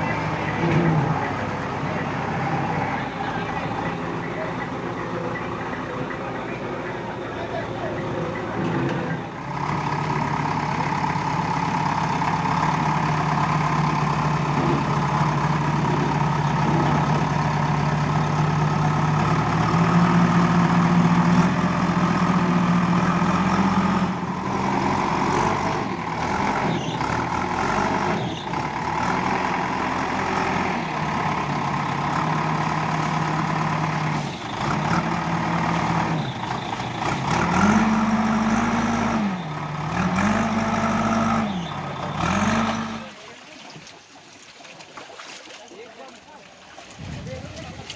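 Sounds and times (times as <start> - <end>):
heavy vehicle engine revving: 0.0 - 43.2.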